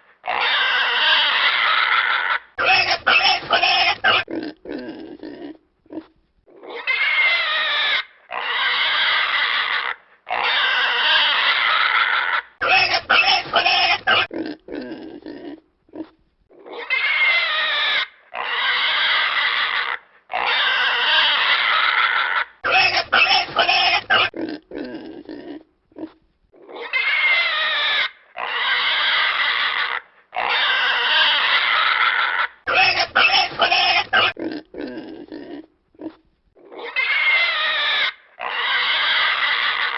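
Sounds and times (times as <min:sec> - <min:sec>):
pig grunting: 0:00.0 - 0:39.9
pig squealing: 0:00.0 - 0:39.9.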